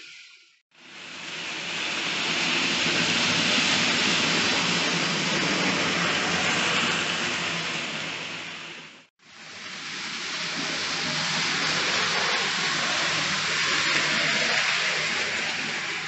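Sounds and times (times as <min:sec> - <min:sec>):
model train running on track: 0:00.9 - 0:16.0.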